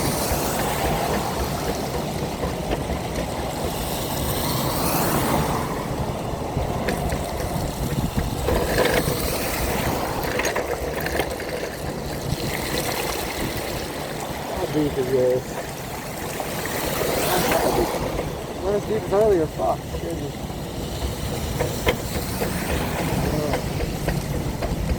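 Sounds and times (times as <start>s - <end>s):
rain: 0.0s - 24.9s
wheelchair rolling on wet road: 0.0s - 24.9s.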